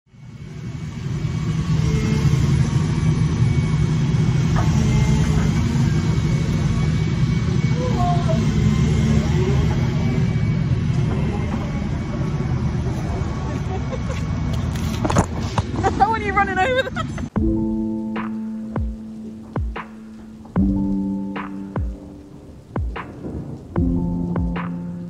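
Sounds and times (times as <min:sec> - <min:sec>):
heavy diesel engine rumbling: 0:00.1 - 0:25.0.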